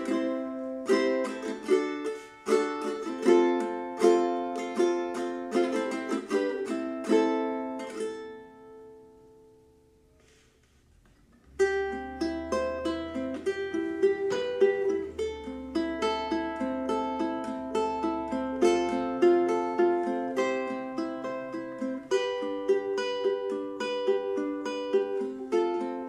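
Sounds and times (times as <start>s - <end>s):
ukulele playing: 0.0s - 26.0s.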